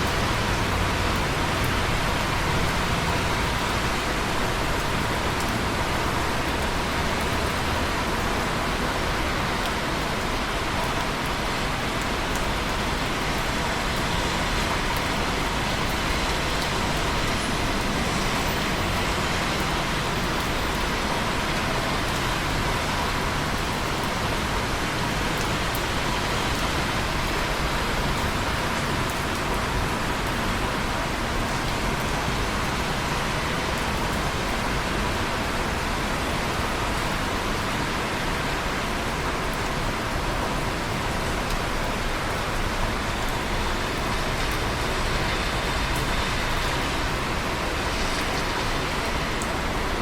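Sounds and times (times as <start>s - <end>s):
steady rainfall: 0.0s - 50.0s.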